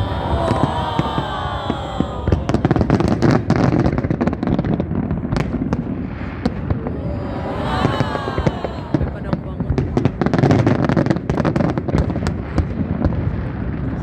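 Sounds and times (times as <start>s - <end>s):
low rumble of fireworks booms: 0.2s - 7.0s, 7.9s - 14.0s.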